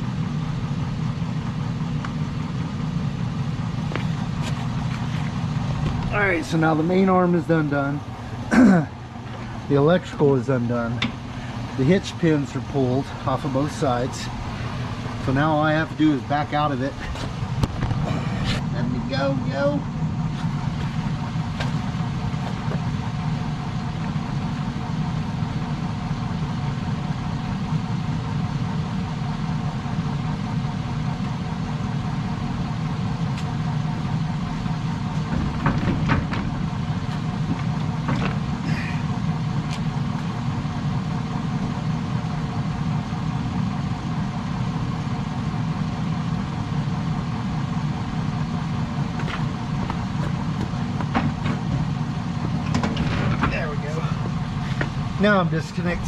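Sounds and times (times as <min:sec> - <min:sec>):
pickup truck engine idling: 0:00.0 - 0:56.0.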